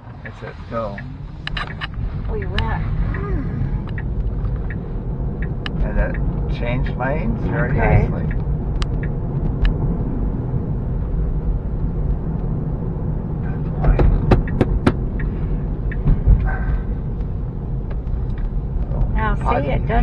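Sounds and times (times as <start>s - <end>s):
road and tyre rumble in car: 0.0s - 20.0s.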